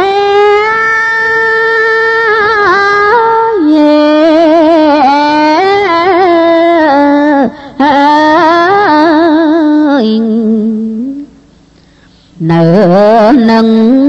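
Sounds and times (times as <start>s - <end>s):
person chanting ornamented melody: 0.0s - 11.3s, 12.4s - 14.0s.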